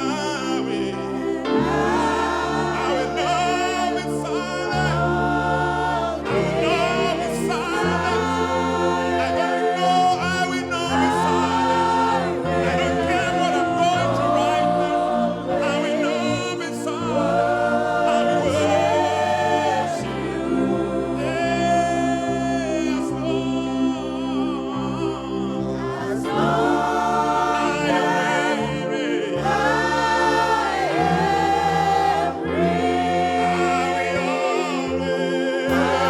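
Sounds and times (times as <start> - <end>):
choir and congregation singing: 0.0 - 36.0
low musical accompaniment: 0.0 - 36.0.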